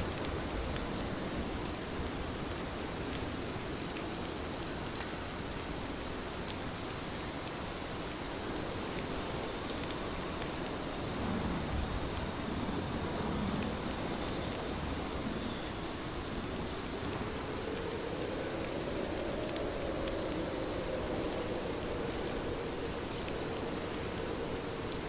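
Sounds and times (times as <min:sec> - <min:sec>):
heavy rain falling: 0:00.0 - 0:25.0
raindrops ticking on a surface: 0:00.0 - 0:25.0.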